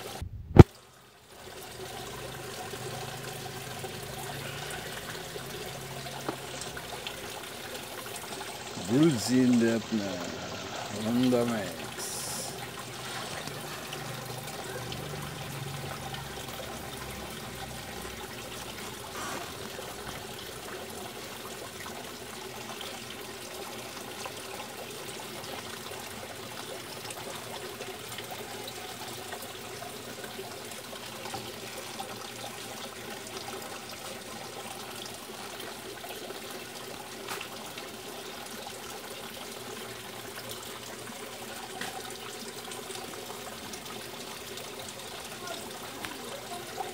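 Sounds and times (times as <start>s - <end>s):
water splashing into pond: 0.0s - 46.9s.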